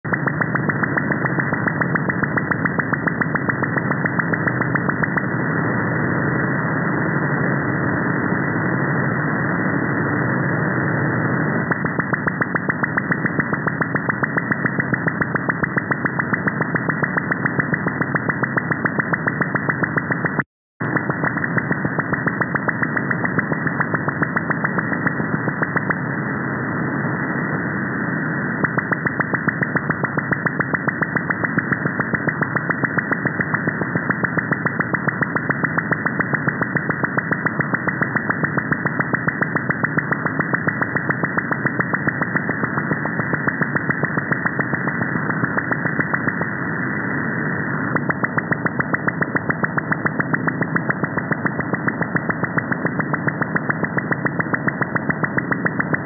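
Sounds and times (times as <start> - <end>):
rapid radar clicks: 0.0 - 5.8, 11.5 - 26.4, 28.4 - 56.0.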